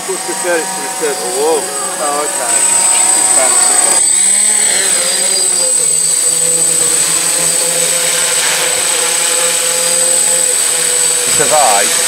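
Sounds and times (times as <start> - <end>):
high-pitched whine: 0.0 - 12.0
quadcopter motors buzzing: 0.0 - 12.0.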